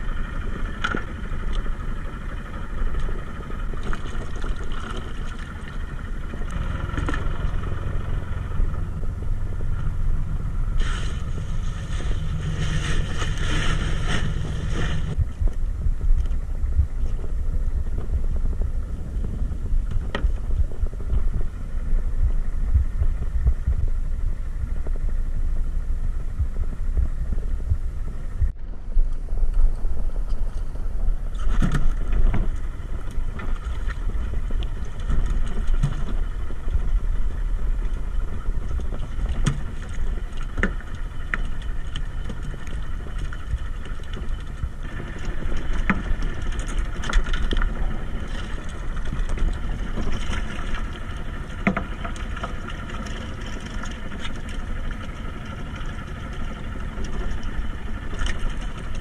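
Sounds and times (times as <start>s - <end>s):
boat noise: 0.0s - 59.0s
wind on microphone: 0.0s - 59.0s.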